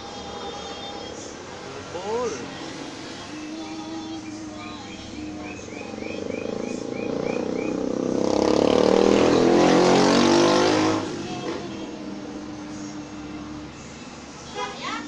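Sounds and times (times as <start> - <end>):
motor vehicle passing: 0.4 - 15.0.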